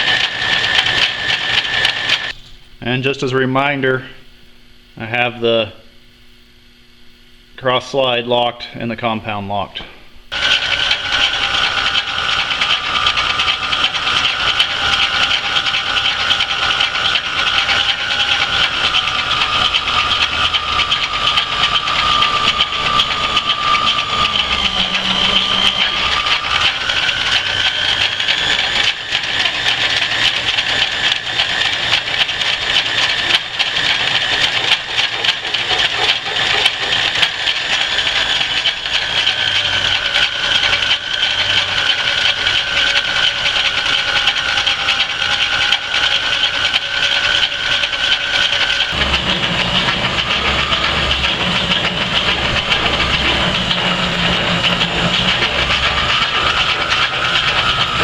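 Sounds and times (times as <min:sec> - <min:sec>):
drill cutting steel hissing: 0:00.0 - 0:02.4, 0:10.3 - 0:58.0
lathe machine hum: 0:00.0 - 0:02.5, 0:10.3 - 0:58.0
high machine tone: 0:00.0 - 0:08.4, 0:10.2 - 0:58.0.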